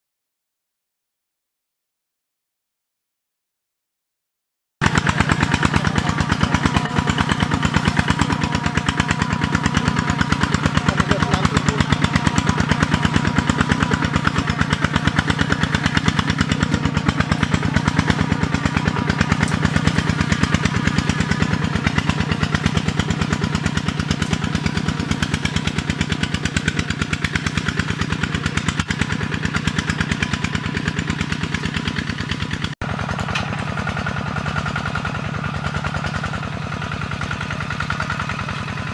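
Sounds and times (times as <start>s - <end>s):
tractor engine chugging: 4.8s - 38.9s.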